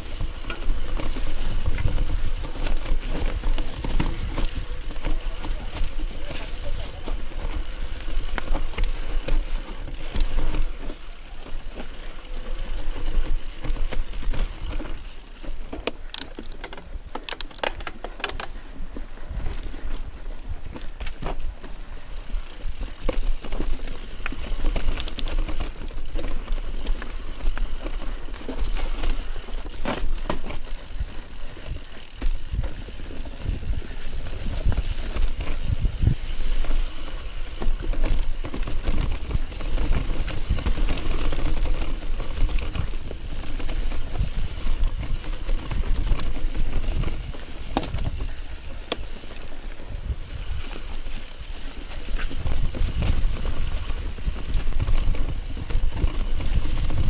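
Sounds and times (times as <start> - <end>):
bike rattling over rough ground: 0.0 - 57.0.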